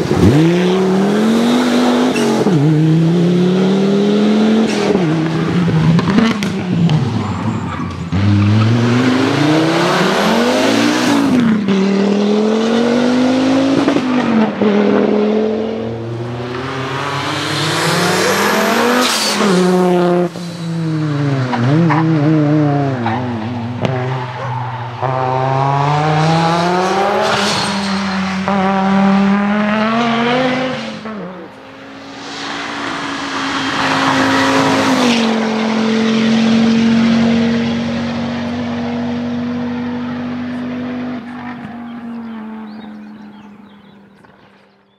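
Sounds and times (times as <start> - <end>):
rally car engines revving: 0.0 - 44.6.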